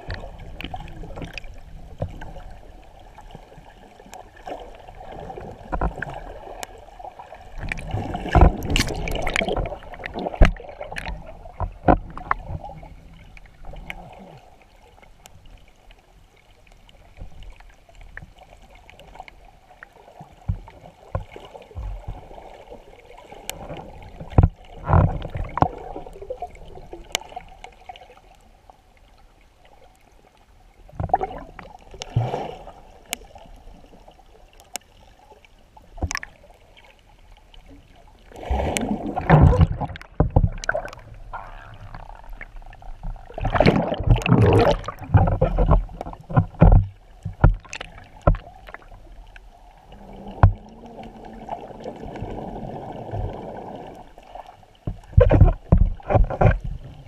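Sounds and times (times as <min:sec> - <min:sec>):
muffled underwater rush: 0:00.0 - 0:29.6, 0:35.6 - 0:57.0
underwater bubbling and clicks: 0:00.0 - 0:57.0.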